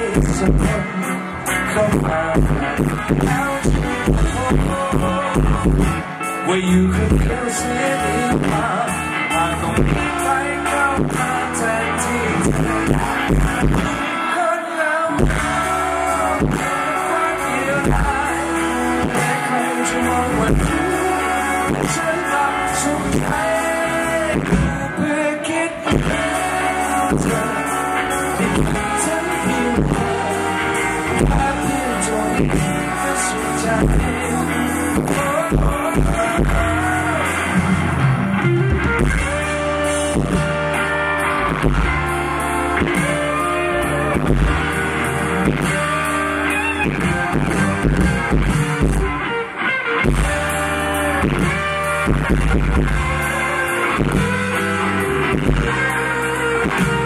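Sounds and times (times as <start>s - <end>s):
man singing: 0.0s - 38.2s, 38.8s - 49.2s, 50.0s - 57.0s
live band playing pop: 0.0s - 57.0s.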